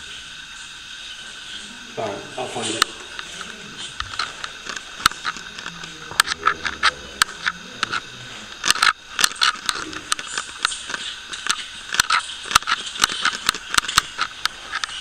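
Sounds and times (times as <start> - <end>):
sharp clicks and cracks: 2.6 - 15.0.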